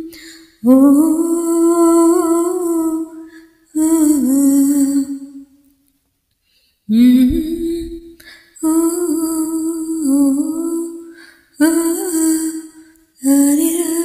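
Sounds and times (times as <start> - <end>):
person humming a slow melody: 0.0 - 5.5, 6.9 - 14.0.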